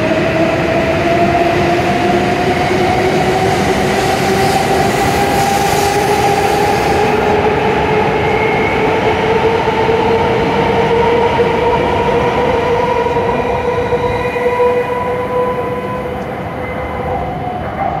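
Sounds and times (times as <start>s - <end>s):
high-speed train passing: 0.0s - 18.0s
steady train tone: 0.0s - 18.0s.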